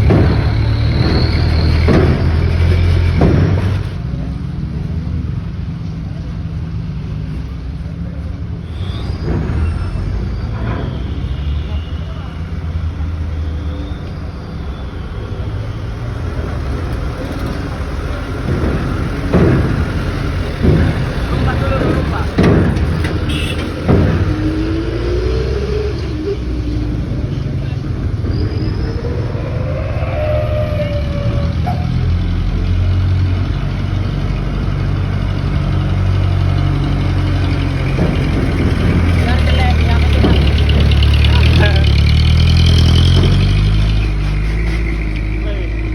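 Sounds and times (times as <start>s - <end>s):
diesel truck engine rumbling: 0.0s - 45.9s
engine surges: 0.0s - 45.9s.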